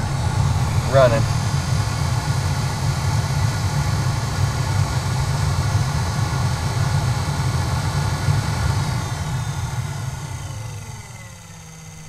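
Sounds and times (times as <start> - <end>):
blower fan rushing air: 0.0 - 11.4.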